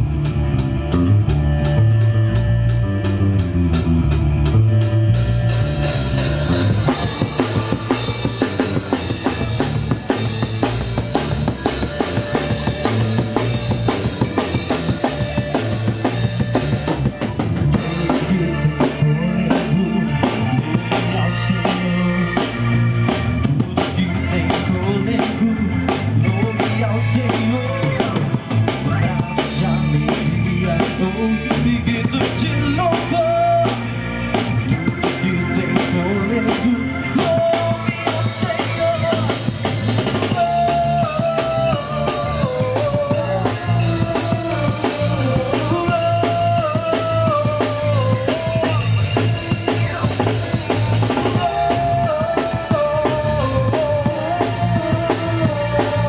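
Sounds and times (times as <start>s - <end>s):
band playing worship song: 0.0s - 56.0s
drum kit beat: 0.0s - 56.0s
melodic lead line: 0.0s - 56.0s.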